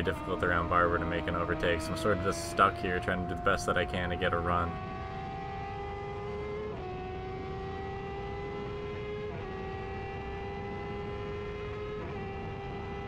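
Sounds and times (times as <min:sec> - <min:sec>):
race car engine accelerating: 0:00.0 - 0:13.0
wind and road noise: 0:00.0 - 0:13.0.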